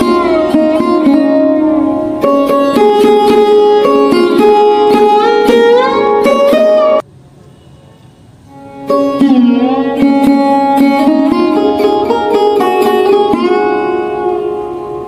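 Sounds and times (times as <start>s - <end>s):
plucked string music: 0.0s - 7.1s, 8.5s - 15.0s.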